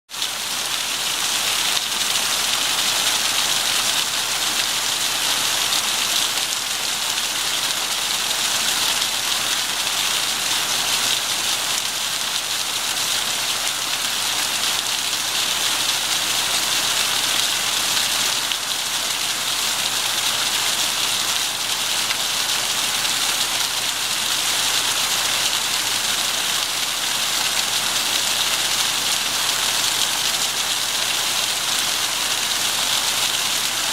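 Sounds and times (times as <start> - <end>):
waterfall pouring and splashing: 0.1 - 33.9.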